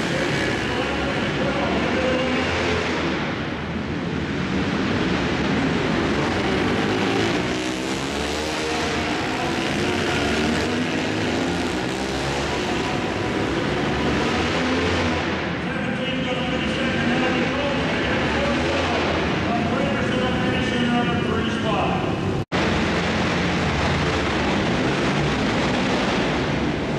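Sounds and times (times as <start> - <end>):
racing motorcycle engines: 0.0 - 26.9.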